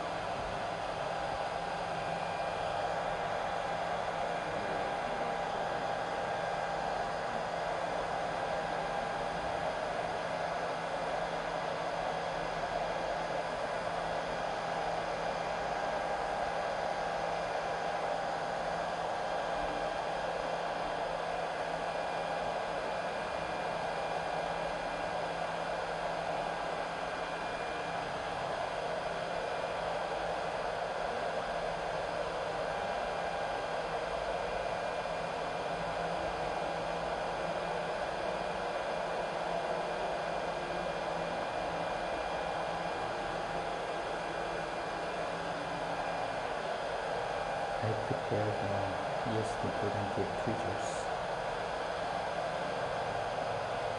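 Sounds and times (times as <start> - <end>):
faint steady hum: 0.0 - 53.9
hot air blower whirring: 0.0 - 53.9.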